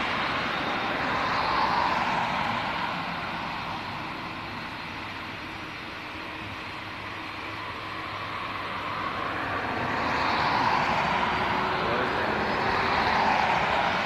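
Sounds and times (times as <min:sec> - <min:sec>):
faint high whine: 0:00.0 - 0:14.0
jet airliner engines rushing: 0:00.0 - 0:14.0.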